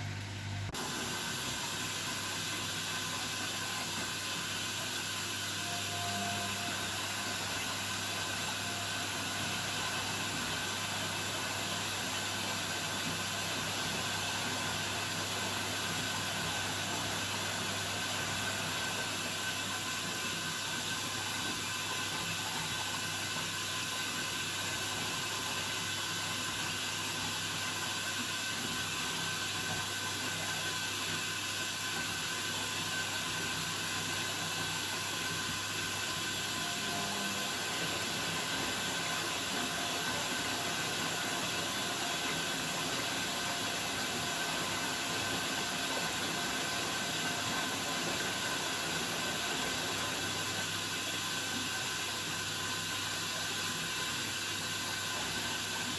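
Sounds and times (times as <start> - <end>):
washing machine running: 0.0 - 55.9.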